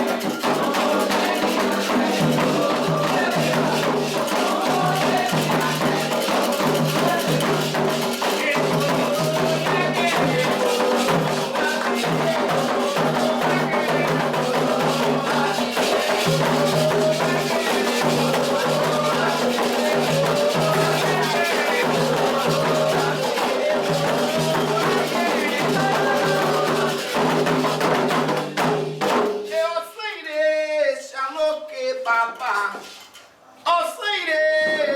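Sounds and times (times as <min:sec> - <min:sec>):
rattle shaking: 0:00.0 - 0:28.6
hand drums: 0:00.0 - 0:29.6
voices singing a chant: 0:00.0 - 0:33.0, 0:33.6 - 0:34.9.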